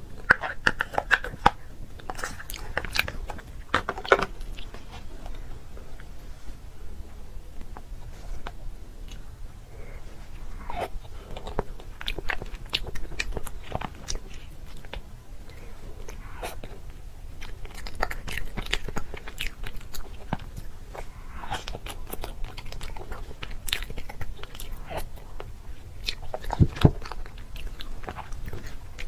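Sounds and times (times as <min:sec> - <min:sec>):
crunchy biting and chewing: 0:00.0 - 0:06.2, 0:07.6 - 0:29.0.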